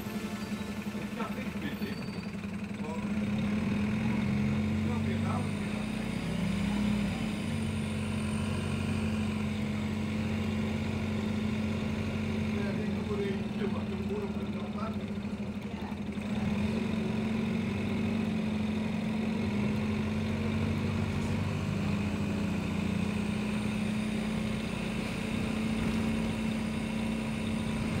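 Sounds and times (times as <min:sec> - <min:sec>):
bus engine and road drone: 0:00.0 - 0:28.0.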